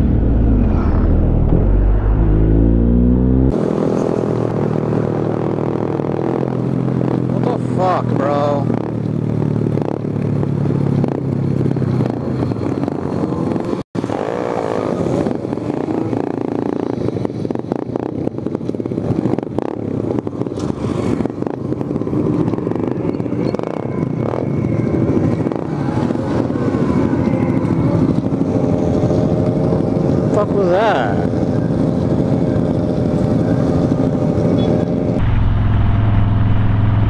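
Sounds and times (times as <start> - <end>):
motorcycle engines in traffic: 0.0 - 37.0.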